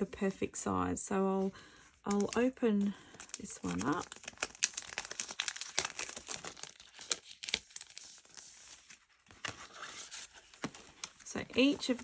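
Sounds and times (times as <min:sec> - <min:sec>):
plastic packaging crinkling: 0:02.1 - 0:12.0.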